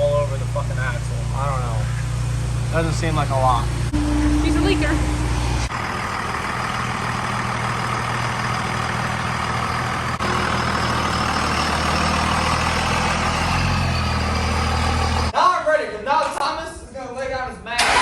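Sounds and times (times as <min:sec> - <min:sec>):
vehicle engine running: 0:00.0 - 0:15.3.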